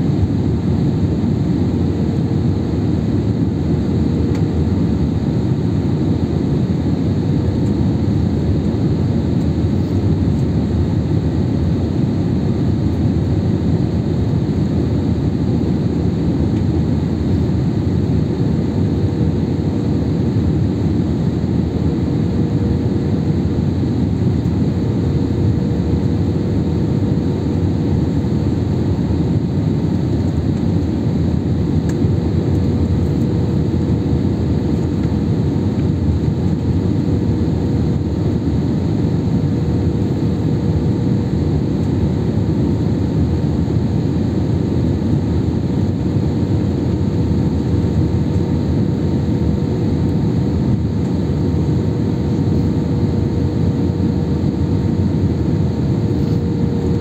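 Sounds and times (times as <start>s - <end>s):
faint steady hum: 0.0s - 57.0s
jet engines and airflow rushing: 0.0s - 57.0s.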